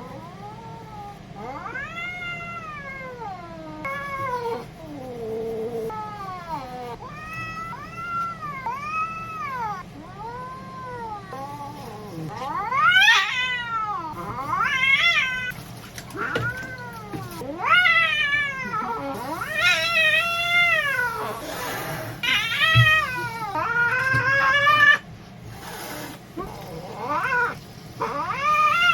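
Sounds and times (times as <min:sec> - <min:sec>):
cat meowing and yowling: 0:00.2 - 0:05.0, 0:05.9 - 0:15.6, 0:16.2 - 0:21.3, 0:22.2 - 0:25.0, 0:26.8 - 0:28.9.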